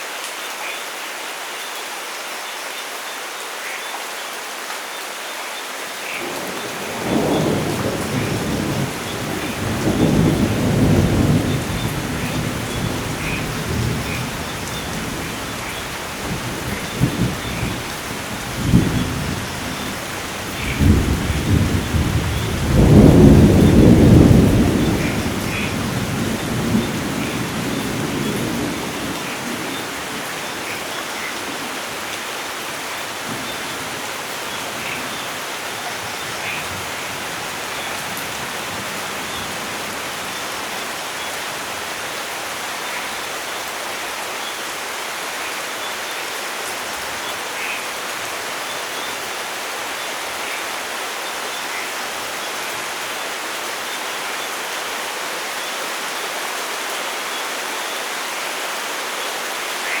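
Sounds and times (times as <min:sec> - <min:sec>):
rain falling in forest: 0:00.0 - 1:00.0.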